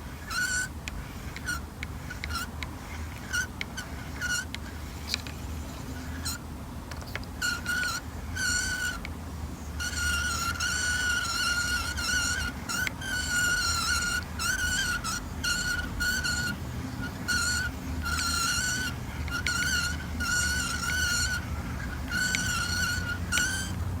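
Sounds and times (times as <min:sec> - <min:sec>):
fishing reel whine: 0:00.2 - 0:06.4, 0:07.4 - 0:23.9.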